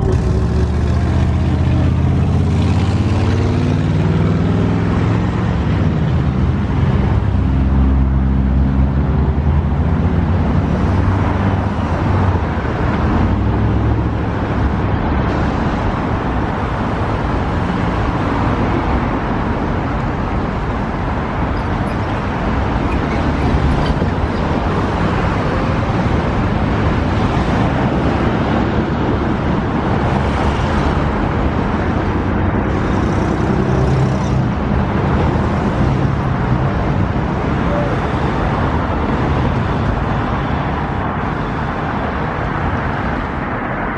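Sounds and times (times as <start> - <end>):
vehicle rushing rumble: 0.0 - 43.9.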